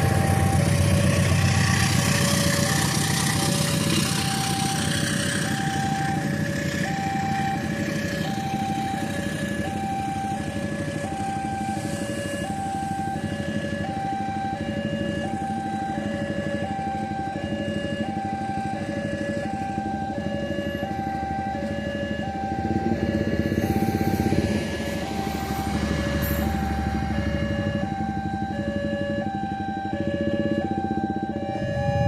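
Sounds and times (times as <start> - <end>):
passing traffic: 0.0 - 32.0.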